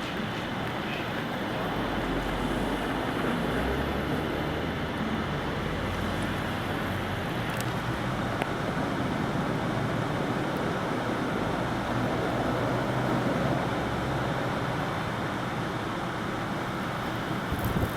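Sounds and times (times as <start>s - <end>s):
low engine hum: 0.0s - 17.9s
vehicle traffic: 0.0s - 17.9s.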